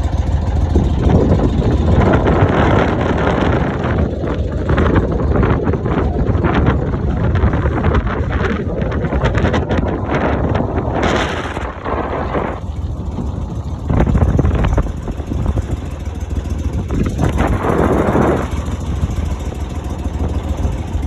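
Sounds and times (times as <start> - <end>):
boat motor running: 0.0 - 21.0
wind buffeting microphone: 0.0 - 21.0.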